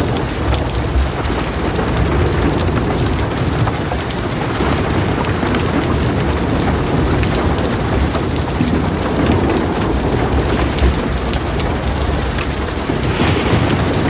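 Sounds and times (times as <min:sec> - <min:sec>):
heavy rain on a metal roof: 0:00.0 - 0:14.0
low rumble of thunder: 0:00.0 - 0:14.0.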